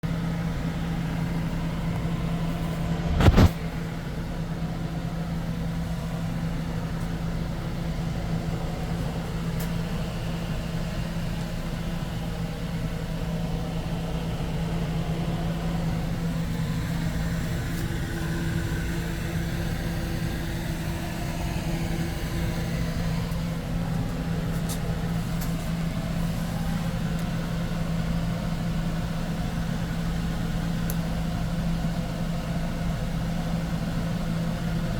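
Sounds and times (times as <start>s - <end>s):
water heater humming: 0.0s - 34.9s.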